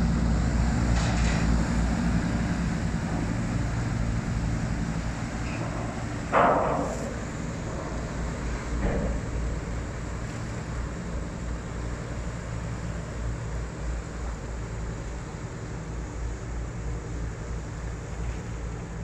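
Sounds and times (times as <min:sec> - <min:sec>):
propellers churning water: 0:00.0 - 0:19.0
ship engines droning: 0:00.0 - 0:19.0.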